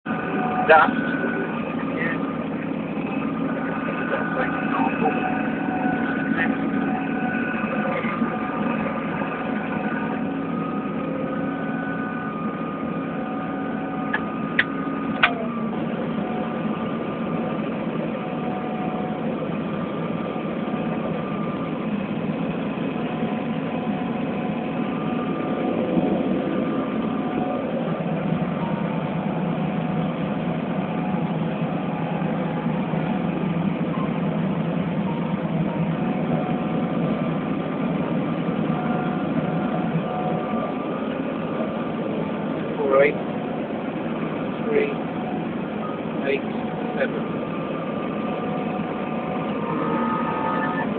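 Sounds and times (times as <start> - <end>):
combine harvester drone: 0.0 - 50.9
steady hum: 0.0 - 50.9.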